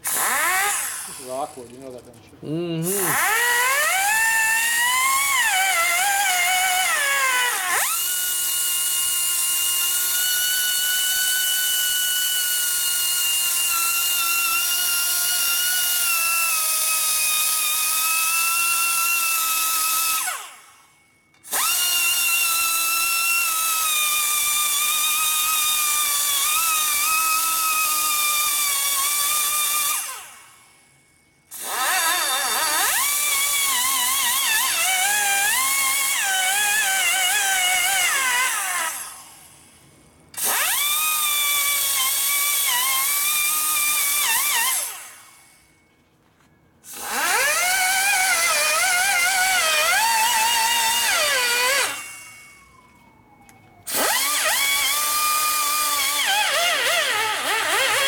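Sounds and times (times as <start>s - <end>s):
die grinder whining: 0.0s - 20.7s, 21.3s - 30.6s, 31.5s - 39.5s, 40.4s - 45.6s, 46.8s - 58.0s.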